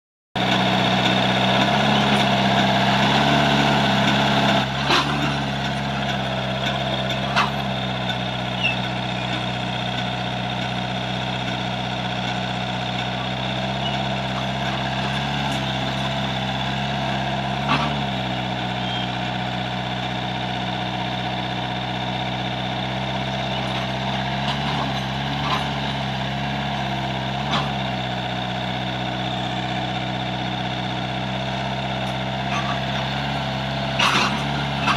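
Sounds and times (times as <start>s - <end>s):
excavator diesel engine running: 0.4s - 34.9s.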